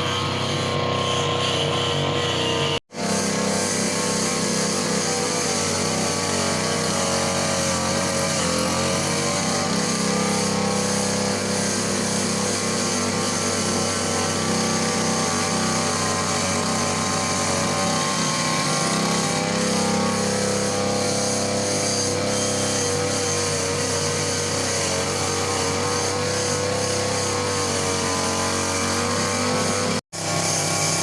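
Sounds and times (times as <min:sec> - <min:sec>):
grass cutter engine running: 0:00.0 - 0:31.0.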